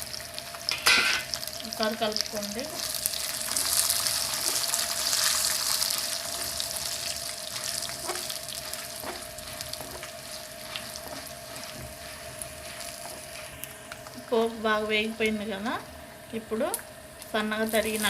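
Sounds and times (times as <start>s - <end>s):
faint steady hum: 0.0s - 18.0s
spices sizzling in hot oil: 0.0s - 18.0s.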